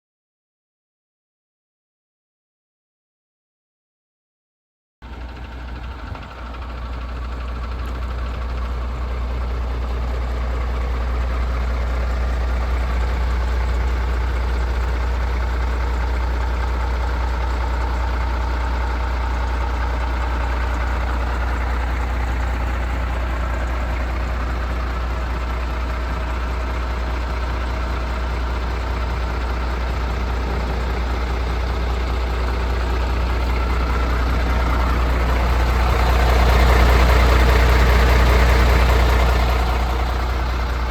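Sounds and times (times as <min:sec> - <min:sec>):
truck diesel engine idling: 0:05.0 - 0:40.9.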